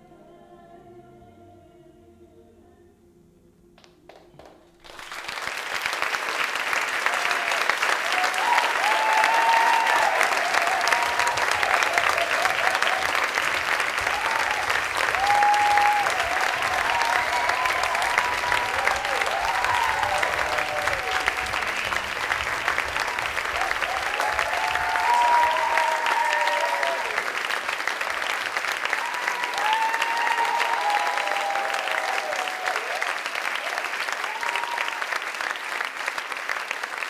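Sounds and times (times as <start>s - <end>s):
audience applauding: 3.8s - 37.0s
people whooping and cheering: 5.1s - 35.8s.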